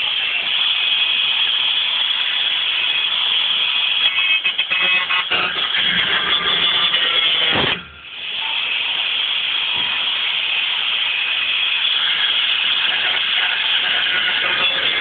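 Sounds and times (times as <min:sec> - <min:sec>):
power tool cutting steel: 0:01.8 - 0:15.0.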